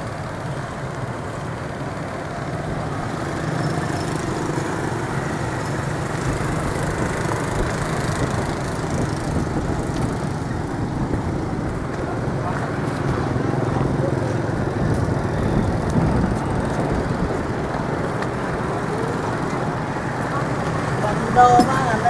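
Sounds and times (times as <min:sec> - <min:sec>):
motorbikes running and passing: 0:00.0 - 0:22.0.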